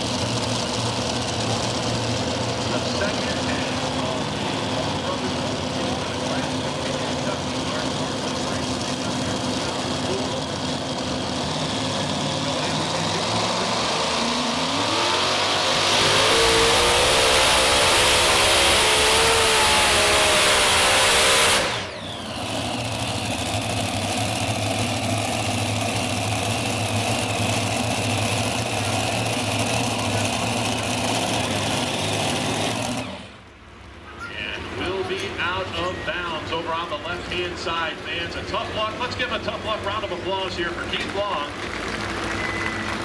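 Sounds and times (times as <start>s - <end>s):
engines running at low throttle: 0.0s - 43.0s
tractor engines revving at full throttle: 0.0s - 43.0s.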